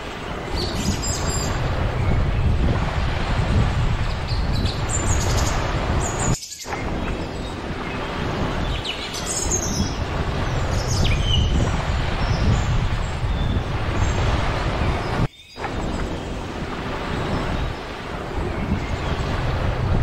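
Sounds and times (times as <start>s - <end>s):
birds chirping: 0.0s - 2.8s, 3.9s - 20.0s
wind and surf rushing: 0.0s - 20.0s.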